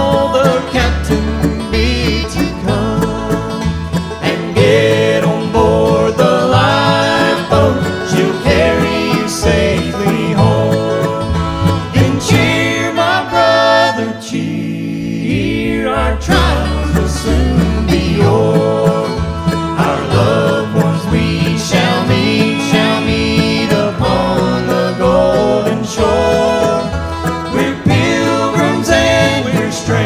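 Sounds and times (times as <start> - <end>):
acoustic guitars: 0.0 - 30.0
banjo: 0.0 - 30.0
fiddle: 0.0 - 30.0
mandolin: 0.0 - 30.0
upright bass: 0.0 - 30.0.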